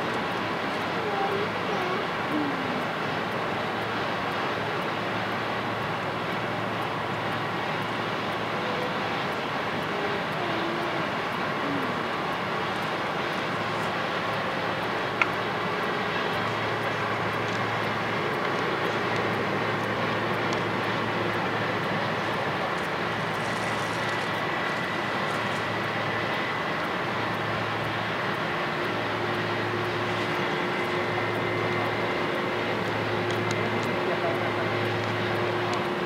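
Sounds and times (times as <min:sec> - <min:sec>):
faint high engine whine: 0:00.0 - 0:36.0
jet engines rushing hum: 0:00.0 - 0:36.0.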